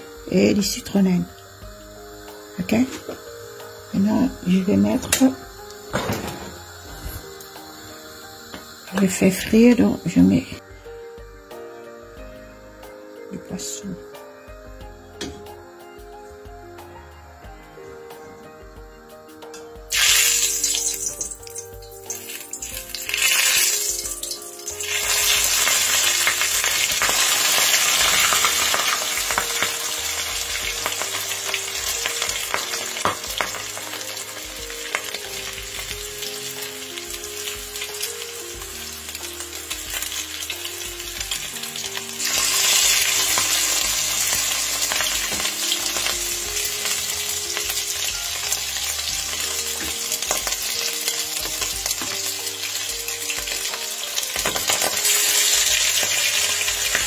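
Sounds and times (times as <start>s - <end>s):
fish sizzling in hot oil: 0.0s - 12.2s, 19.8s - 57.0s.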